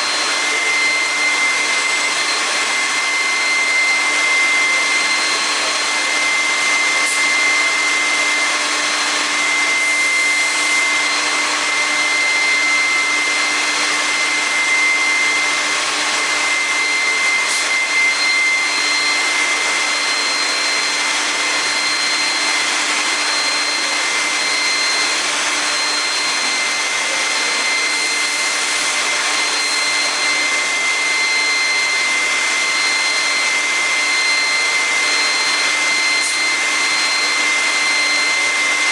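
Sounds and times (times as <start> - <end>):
machine high whine: 0.0 - 38.9.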